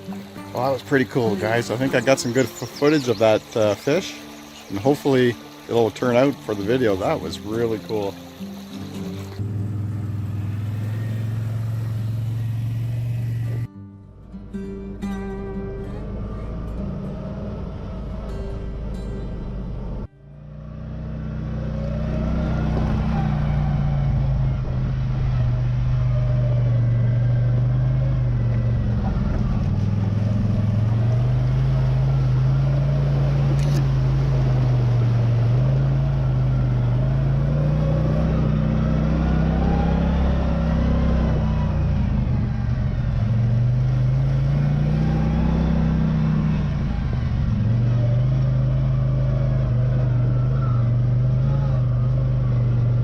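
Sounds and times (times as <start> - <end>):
vehicle engine revving: 0.0 - 13.7, 14.4 - 53.0.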